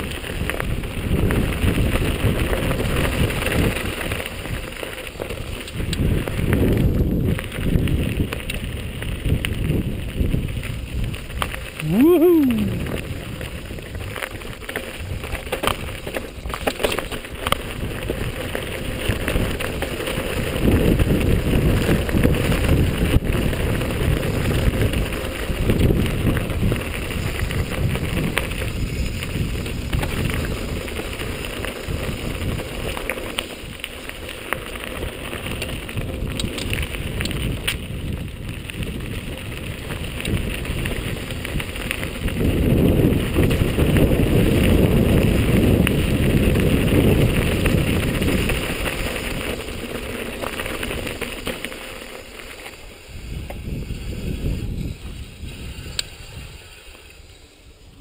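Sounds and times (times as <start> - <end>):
wind on microphone: 0.0 - 4.7, 5.4 - 15.8, 20.3 - 32.8, 35.4 - 49.8, 53.0 - 58.0
tyres crunching over gravel: 0.0 - 11.9, 12.5 - 58.0
bike rattling: 0.0 - 58.0.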